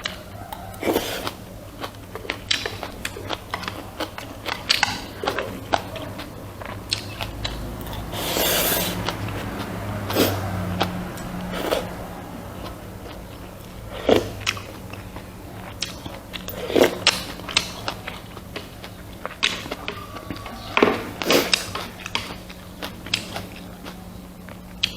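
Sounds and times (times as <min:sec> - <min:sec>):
person chewing and biting: 0:00.0 - 0:12.0, 0:12.6 - 0:24.9
noisy bursts: 0:00.0 - 0:24.8
faint low hum: 0:00.0 - 0:24.9.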